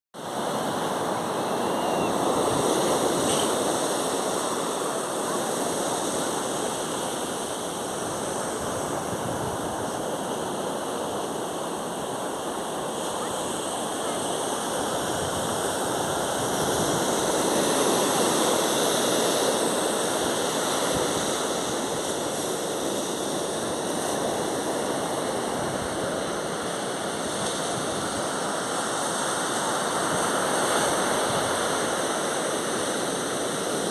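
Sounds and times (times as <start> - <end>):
surf washing on a beach: 0.2 - 33.9.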